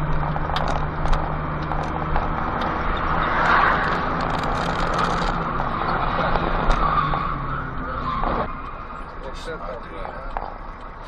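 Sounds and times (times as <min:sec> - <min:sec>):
car engine humming: 0:00.0 - 0:11.0
road noise: 0:00.0 - 0:11.0.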